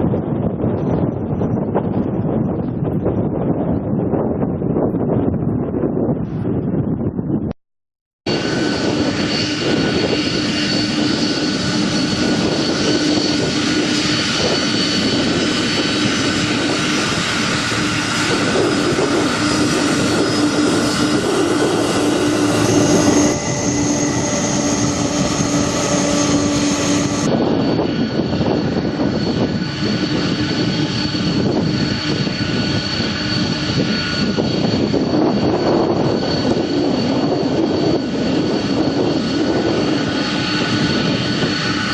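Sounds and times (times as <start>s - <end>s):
jet engines roaring with high whine: 0.0s - 7.4s, 8.3s - 41.9s.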